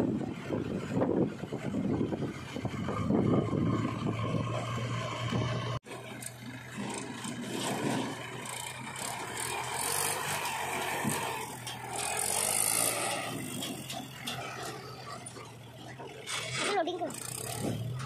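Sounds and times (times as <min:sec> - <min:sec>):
diesel tractor engines running: 0:00.0 - 0:18.0
metal rattling: 0:00.4 - 0:18.0.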